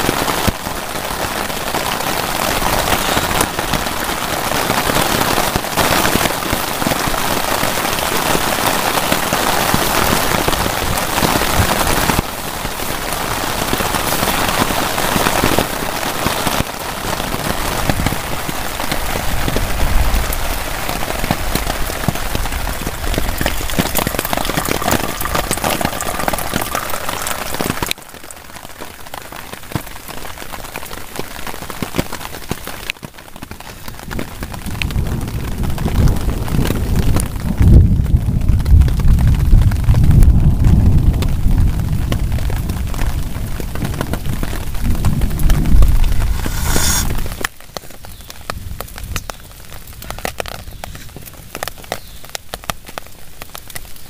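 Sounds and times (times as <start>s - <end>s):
heavy rain on a tarp: 0.0s - 54.0s.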